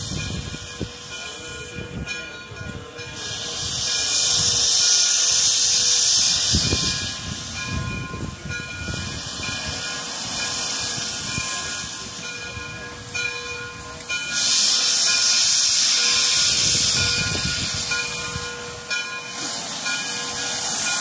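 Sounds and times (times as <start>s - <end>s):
steam hissing: 0.0s - 21.0s
steam locomotive chuffing: 0.0s - 21.0s.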